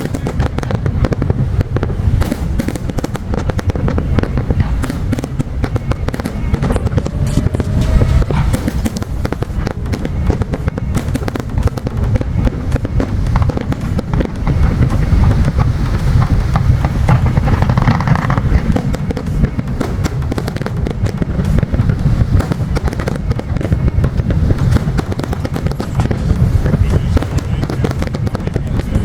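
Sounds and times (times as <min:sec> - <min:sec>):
fireworks crackling pops: 0:00.0 - 0:29.0
fireworks shells booming: 0:00.0 - 0:29.0.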